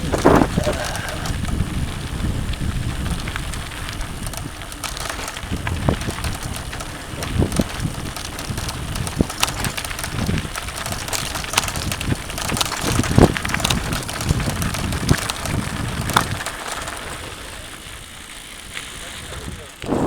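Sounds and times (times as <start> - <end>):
bike clicks and rattles: 0.0 - 19.9
bike tyres crunching on dirt: 0.0 - 20.0.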